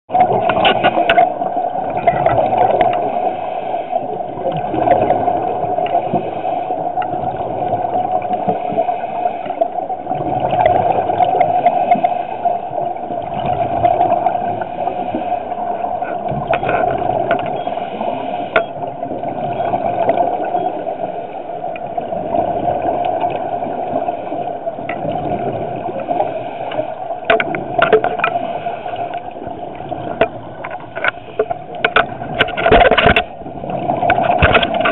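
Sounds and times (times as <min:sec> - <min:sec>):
scuba regulator breathing and bubbles: 0:00.1 - 0:34.9
steady underwater hum: 0:00.1 - 0:34.9.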